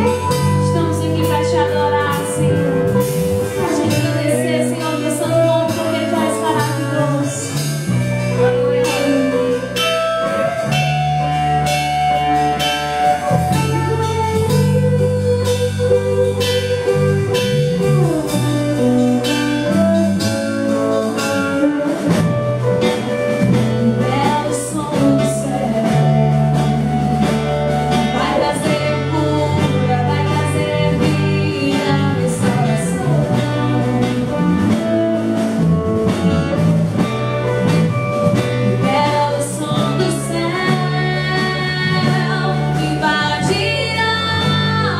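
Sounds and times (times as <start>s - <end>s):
worship song with singing and guitar: 0.0s - 44.9s.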